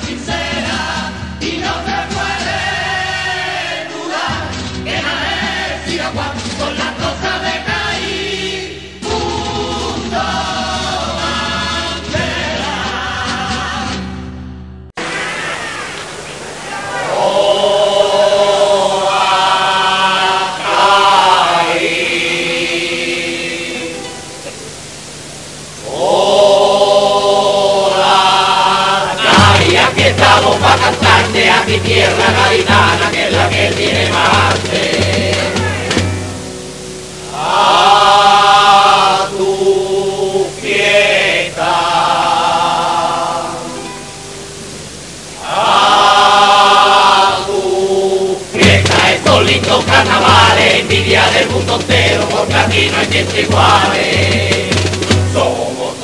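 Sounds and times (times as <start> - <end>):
chorus singing in harmony: 0.0 - 14.2, 16.4 - 25.0, 25.8 - 44.2, 45.2 - 56.0
music with long held vocal notes: 0.0 - 14.5, 16.6 - 56.0.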